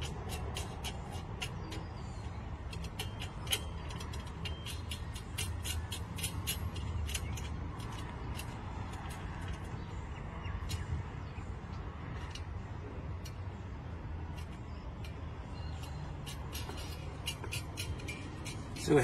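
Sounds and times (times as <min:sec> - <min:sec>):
light metallic clicks and taps: 0:00.0 - 0:19.0.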